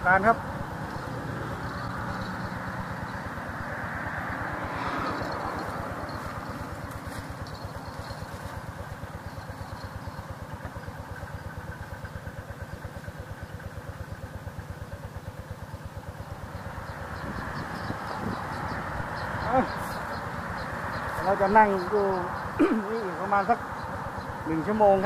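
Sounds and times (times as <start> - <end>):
small engine idling: 0.0 - 25.0.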